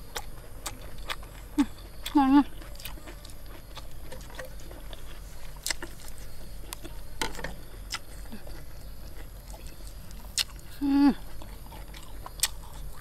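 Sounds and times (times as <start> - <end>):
chewing mouth clicks and smacks: 0.1 - 7.0, 7.9 - 10.7, 11.3 - 13.0.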